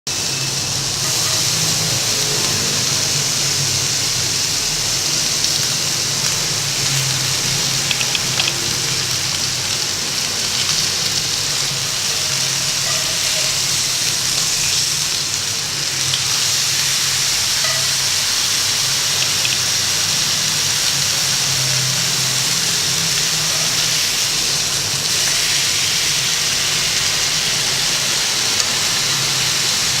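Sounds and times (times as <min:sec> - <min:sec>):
meat sizzling in a pan: 0:00.1 - 0:30.0.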